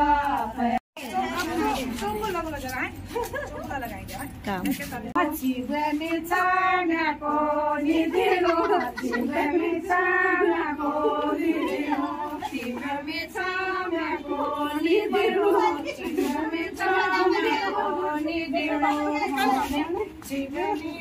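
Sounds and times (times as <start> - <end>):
women singing in unison: 0.0 - 2.6, 5.0 - 21.0.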